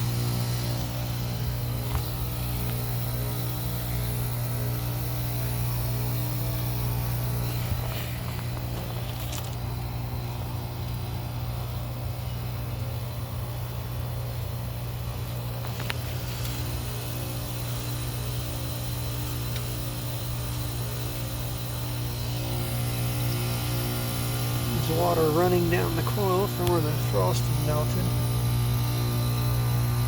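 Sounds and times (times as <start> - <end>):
heat pump compressor hum: 0.0 - 30.0.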